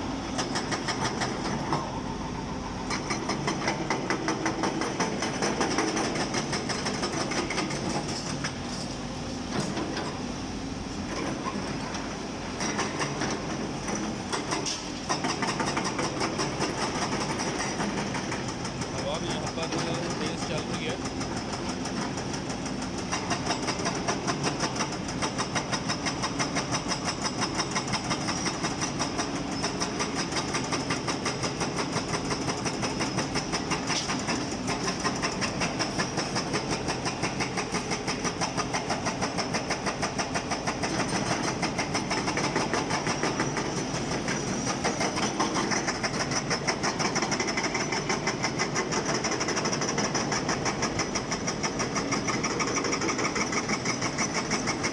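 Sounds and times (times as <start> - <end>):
hydraulic breaker hammering rock: 2.9 - 8.3, 12.6 - 54.9.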